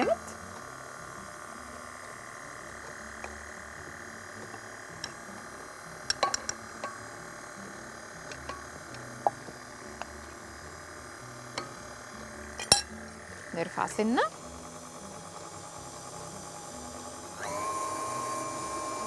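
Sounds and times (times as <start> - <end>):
stand mixer running: 0.0 - 19.0.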